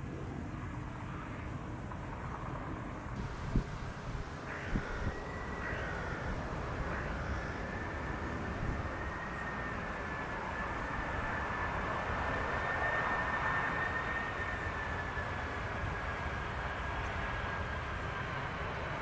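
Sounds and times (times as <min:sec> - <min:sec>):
jet engines whining: 0:03.2 - 0:19.0.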